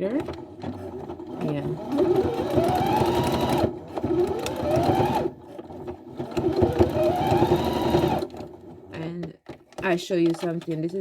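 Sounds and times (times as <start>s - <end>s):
electric sewing machine whine: 0.0s - 9.0s.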